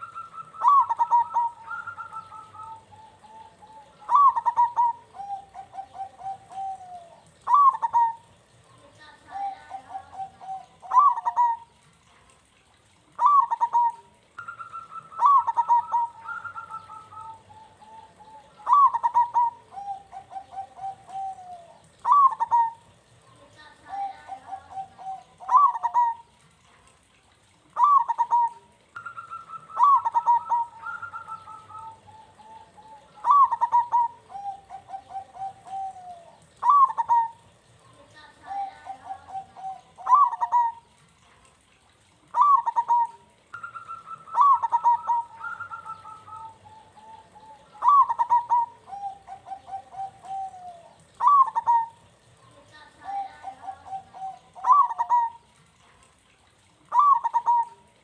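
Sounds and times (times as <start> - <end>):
dove cooing: 0.0 - 55.6, 56.2 - 58.0.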